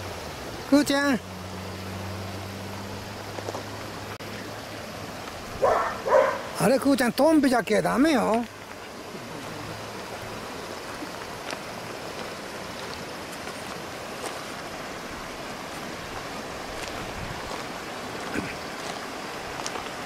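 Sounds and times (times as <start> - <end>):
water flowing over stones: 0.0 - 20.0.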